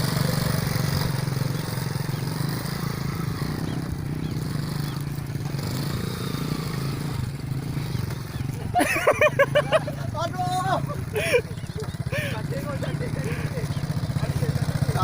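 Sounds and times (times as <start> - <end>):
small engine droning: 0.0 - 15.0.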